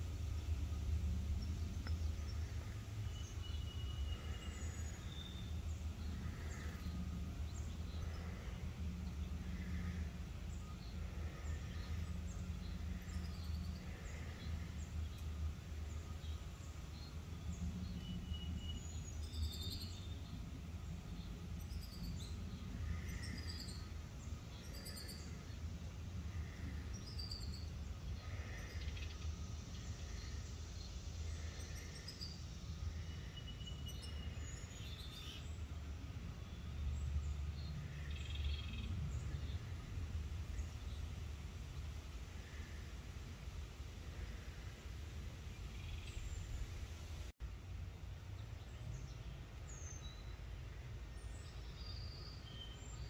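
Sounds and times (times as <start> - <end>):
songbirds calling: 0.0 - 47.3, 48.0 - 53.0
low outdoor hum: 0.0 - 53.0.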